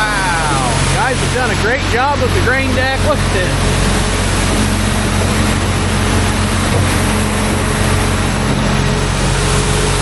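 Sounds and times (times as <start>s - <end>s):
engine droning steadily: 0.0s - 10.0s.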